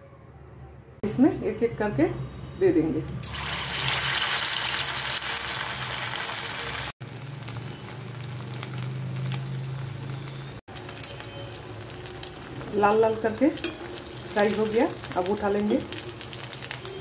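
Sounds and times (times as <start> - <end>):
food deep-frying in oil: 3.2 - 17.0.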